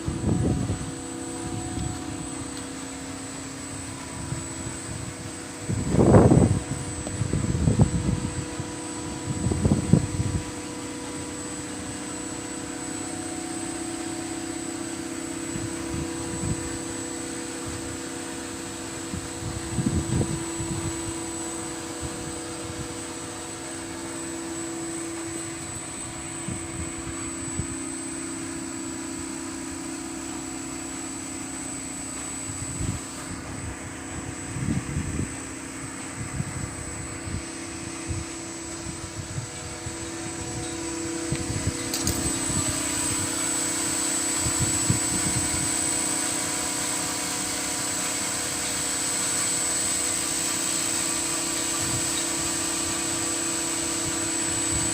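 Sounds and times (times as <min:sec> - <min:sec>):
machinery humming: 0:00.0 - 0:54.9
thin high whine: 0:00.0 - 0:54.9.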